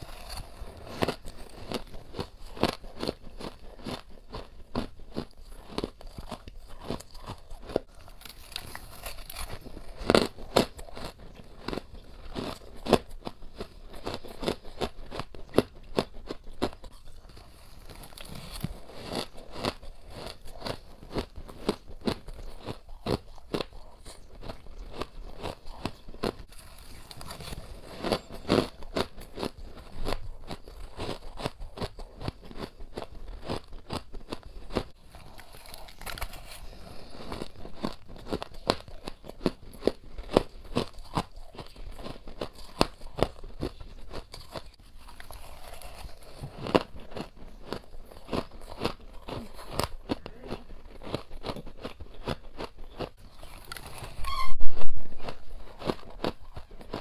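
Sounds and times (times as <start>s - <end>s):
chewing crunchy frost: 0.0s - 57.0s.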